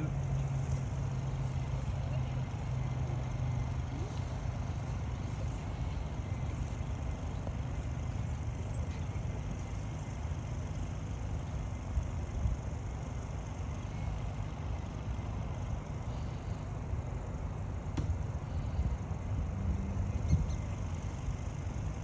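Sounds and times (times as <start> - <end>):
low rumbling outdoor background: 0.0 - 22.0.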